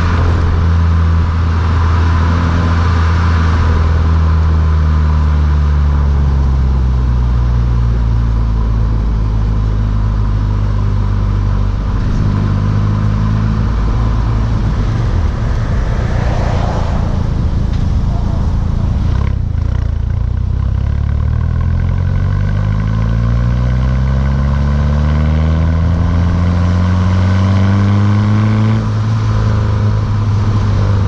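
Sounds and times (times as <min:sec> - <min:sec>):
car engine deep exhaust note: 0:00.0 - 0:31.0.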